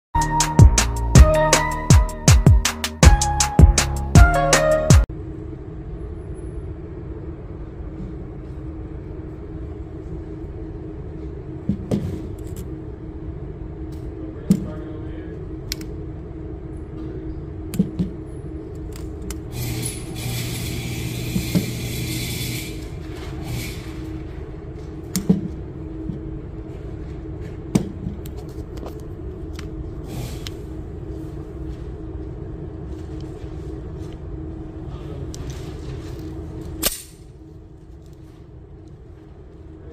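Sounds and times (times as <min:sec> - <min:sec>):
low ventilation rumble and hum: 0:00.2 - 0:39.9.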